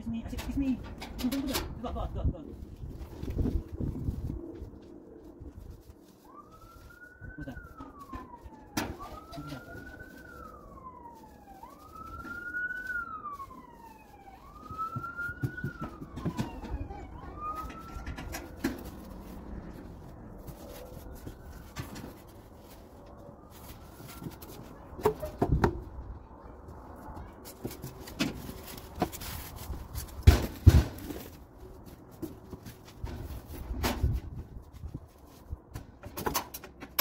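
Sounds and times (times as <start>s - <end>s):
siren wailing: 3.8s - 33.6s.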